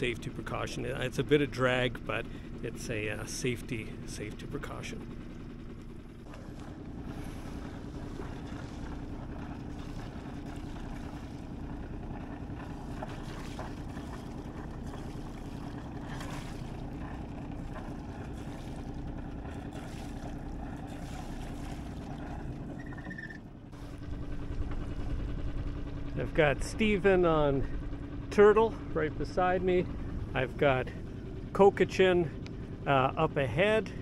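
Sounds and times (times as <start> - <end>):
boat engine idling: 0.0 - 34.0.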